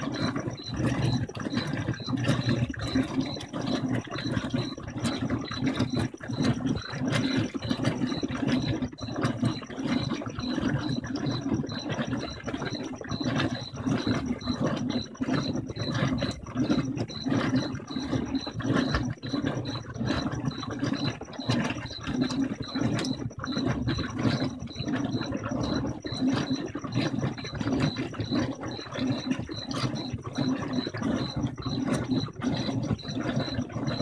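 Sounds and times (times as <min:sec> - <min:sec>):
washing machine agitating: 0:00.0 - 0:34.0.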